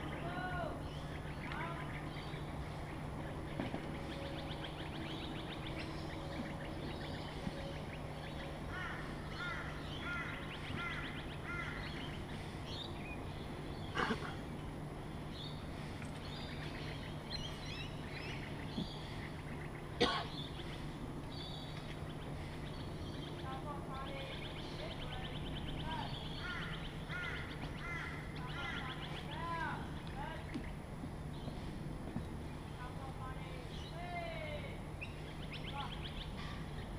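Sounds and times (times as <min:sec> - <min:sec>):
birds chirping and calling: 0:00.0 - 0:36.9
steady low hum: 0:00.0 - 0:36.9.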